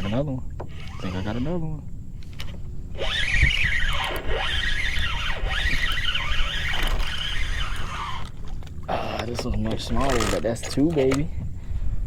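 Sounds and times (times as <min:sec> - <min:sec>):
fishing reel squealing: 0:00.0 - 0:01.8, 0:02.4 - 0:10.8.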